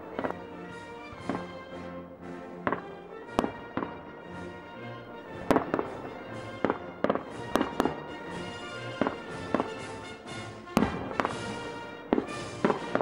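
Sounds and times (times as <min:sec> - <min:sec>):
fireworks bursting: 0:00.0 - 0:13.0
music with long held notes: 0:00.0 - 0:13.0.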